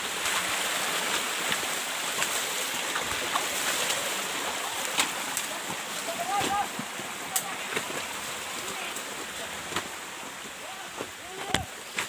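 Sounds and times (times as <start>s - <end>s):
footsteps wading in water: 0.0s - 12.0s
stream running over rocks: 0.0s - 12.0s.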